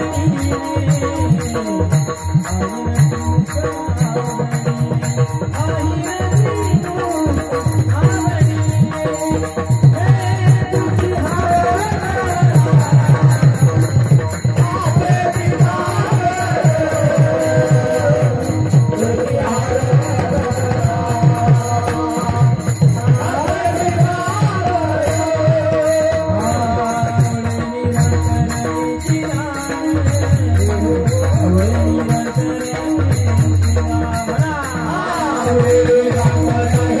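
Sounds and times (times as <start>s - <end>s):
devotional singing: 0.0s - 37.0s
fast steady drum beat: 0.0s - 37.0s.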